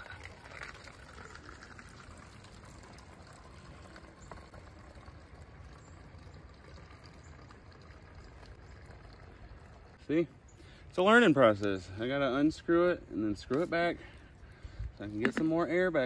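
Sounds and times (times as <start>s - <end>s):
water trickling into bottle: 0.0s - 16.0s.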